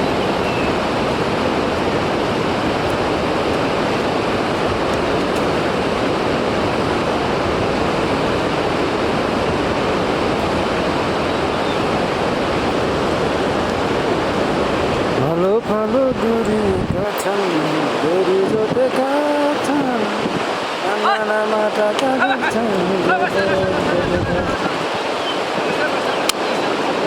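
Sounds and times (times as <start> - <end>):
loud rushing water: 0.0 - 27.0.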